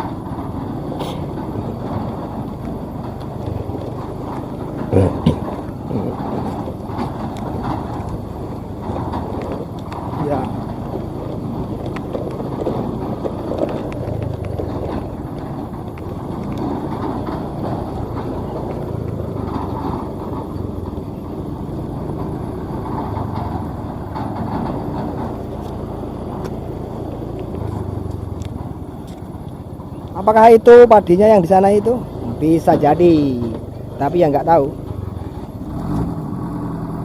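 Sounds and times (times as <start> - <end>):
combine harvester engine running: 0.0 - 37.0.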